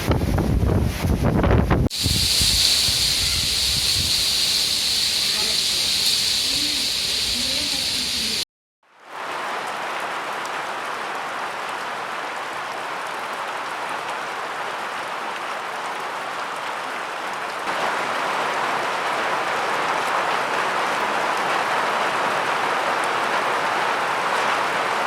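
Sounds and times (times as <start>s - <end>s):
heavy rain pouring: 1.9s - 25.0s.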